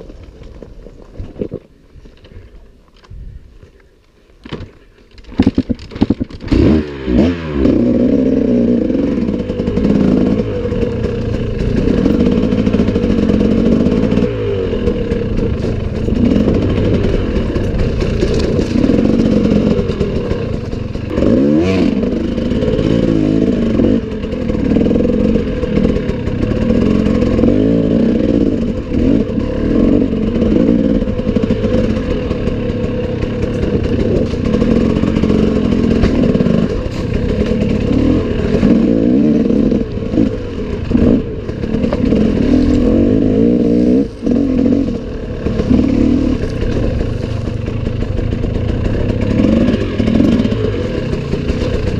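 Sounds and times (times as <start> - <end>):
motorcycle engine revving: 5.4 - 51.9.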